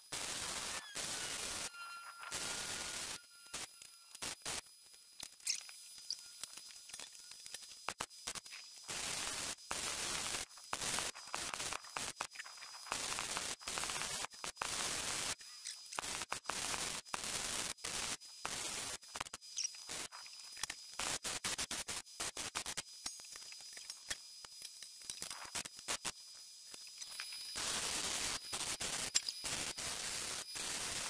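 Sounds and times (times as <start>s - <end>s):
welder arcing on steel: 0.0s - 31.0s.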